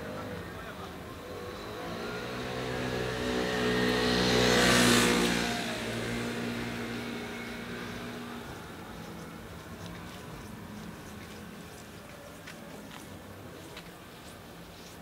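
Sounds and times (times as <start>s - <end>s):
motor vehicle passing: 0.0s - 14.0s
engine hum: 0.0s - 14.8s.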